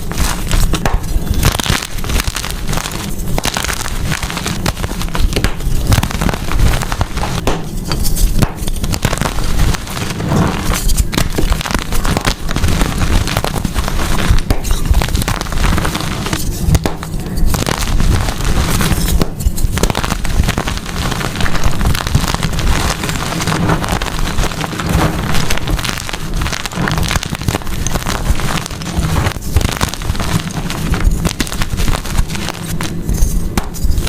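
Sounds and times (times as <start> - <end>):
chalk crackling and crunching: 0.0 - 34.0.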